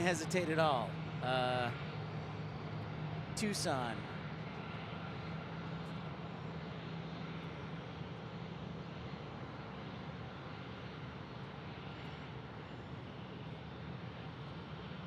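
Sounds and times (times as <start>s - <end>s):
jet airliner engine rushing: 0.0s - 15.0s.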